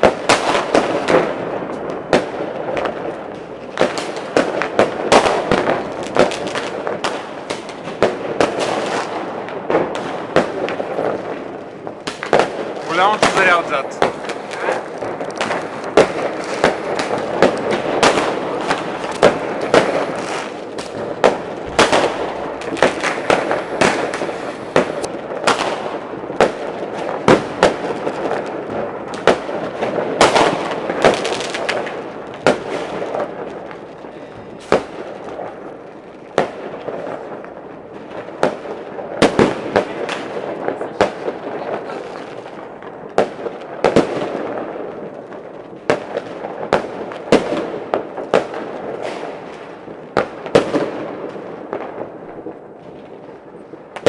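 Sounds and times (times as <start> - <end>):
distant fireworks crackle and rumble: 0.0 - 54.0
fireworks sharp bangs: 0.0 - 54.0.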